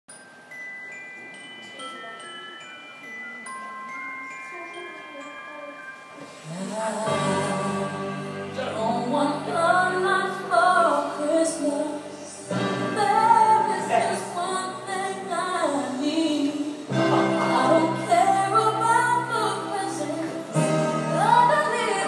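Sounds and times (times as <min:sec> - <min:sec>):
backing music: 0:00.1 - 0:22.0.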